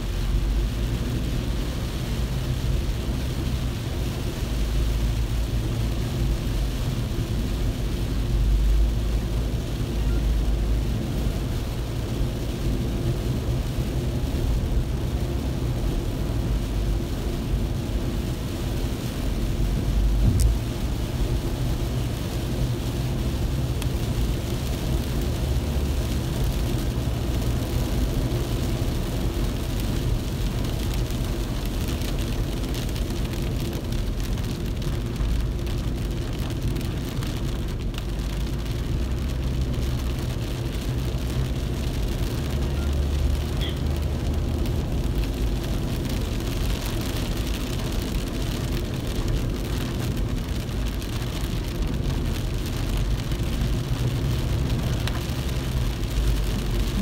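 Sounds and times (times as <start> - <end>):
car engine and road rumble: 0.0 - 57.0
rain and wet tyres hissing: 0.0 - 57.0.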